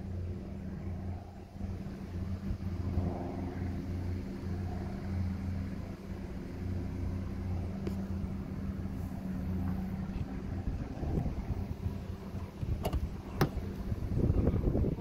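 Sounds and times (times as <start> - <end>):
engine droning steadily: 0.0 - 15.0.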